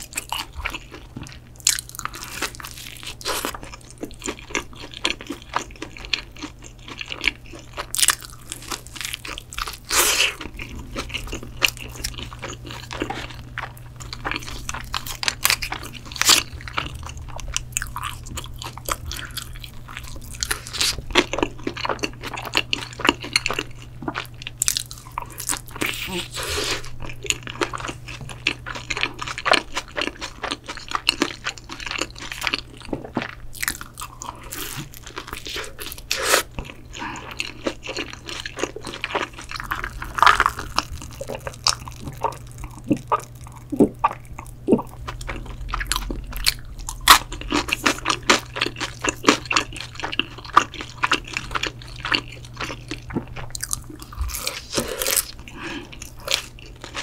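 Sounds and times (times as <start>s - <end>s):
chewing and crunching pizza: 0.0s - 57.0s.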